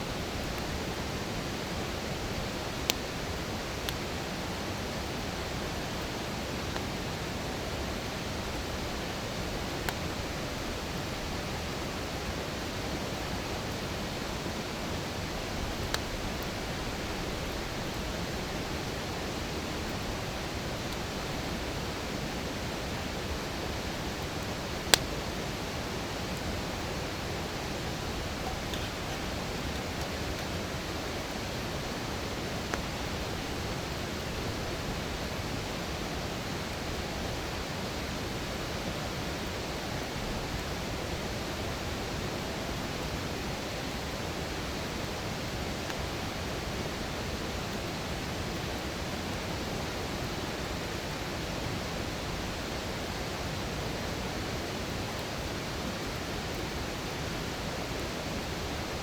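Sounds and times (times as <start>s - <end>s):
rush of flowing water: 0.0s - 59.0s.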